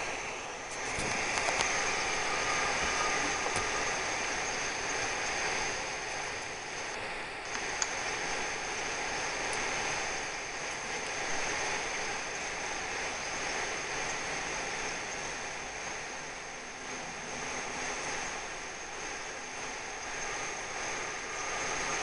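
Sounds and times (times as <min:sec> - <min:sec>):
faint high whine: 0:00.0 - 0:22.0
steady hiss: 0:00.0 - 0:22.0.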